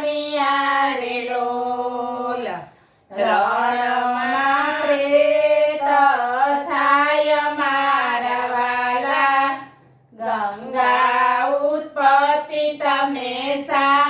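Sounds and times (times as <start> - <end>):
women singing in unison: 0.0 - 14.0.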